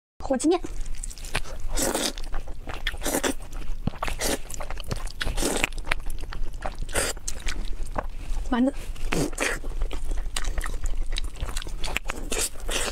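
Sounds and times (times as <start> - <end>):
wet smacking and chewing: 0.6 - 12.9
noodles being slurped: 0.7 - 7.7, 9.0 - 12.9.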